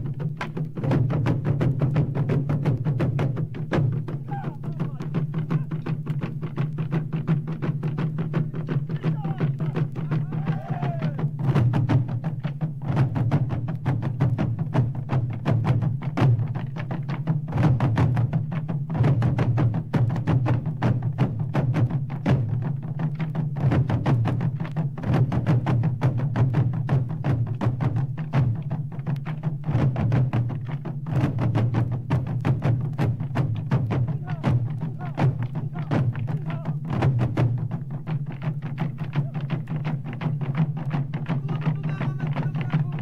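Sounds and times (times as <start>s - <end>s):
many drums in fast rhythm: 0.0s - 43.0s.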